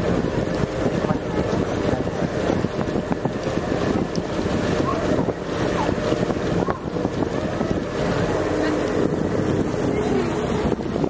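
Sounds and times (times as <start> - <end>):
boat motor running: 0.0 - 11.0
wind buffeting the microphone: 0.0 - 11.0.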